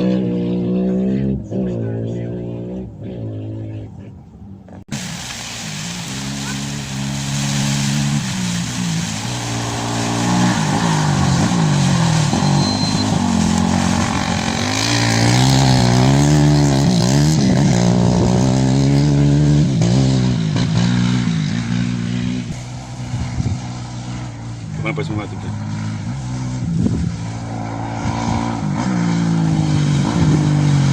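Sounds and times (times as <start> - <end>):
rally vehicle engine running hard: 5.5 - 30.9.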